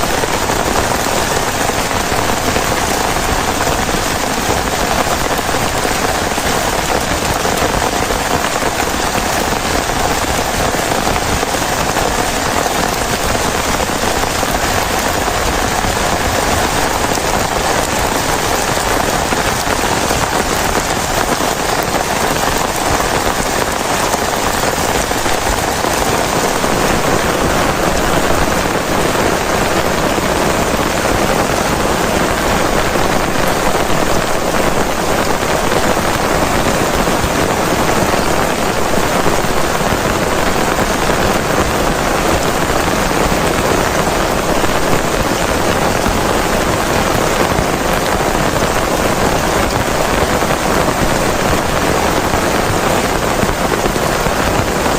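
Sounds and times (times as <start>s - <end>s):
heavy rain pattering: 0.0s - 54.9s.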